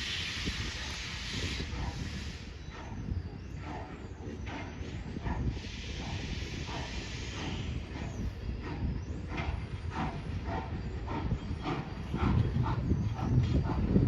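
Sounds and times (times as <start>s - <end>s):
train clacking: 0.0s - 14.0s
train rumble: 0.0s - 14.0s.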